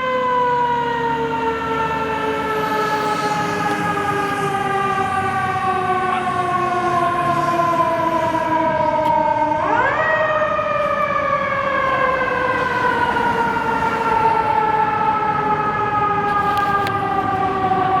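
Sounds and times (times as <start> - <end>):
fire engine siren: 0.0 - 18.0.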